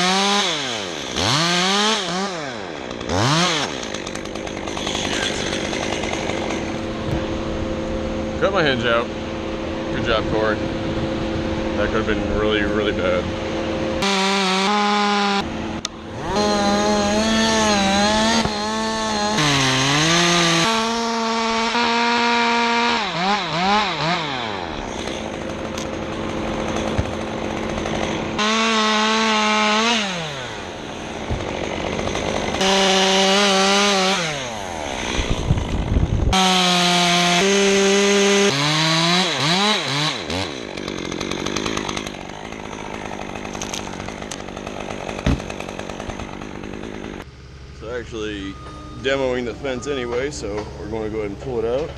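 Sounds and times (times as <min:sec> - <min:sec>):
chainsaw revving at full throttle: 0:00.0 - 0:47.3.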